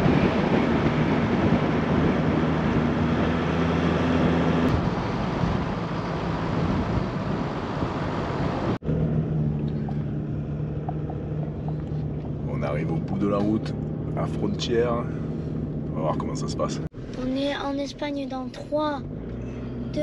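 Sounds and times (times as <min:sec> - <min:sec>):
diesel engine pulling uphill: 0:00.0 - 0:20.0.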